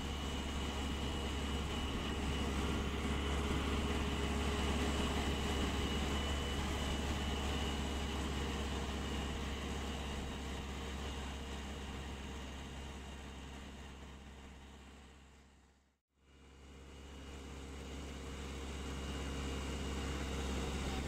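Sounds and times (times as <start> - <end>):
diesel engine running: 0.0 - 15.8, 16.4 - 21.0.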